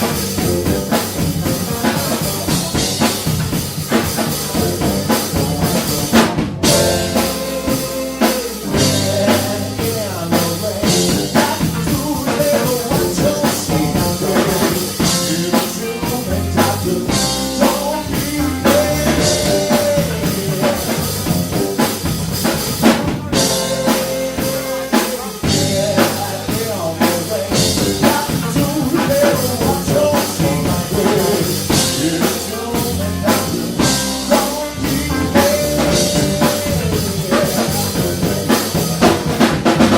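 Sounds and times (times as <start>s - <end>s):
person singing: 0.0s - 22.0s, 22.6s - 39.9s
drum kit beating: 0.0s - 39.9s
guitar: 0.0s - 39.9s
live band playing: 0.0s - 39.9s.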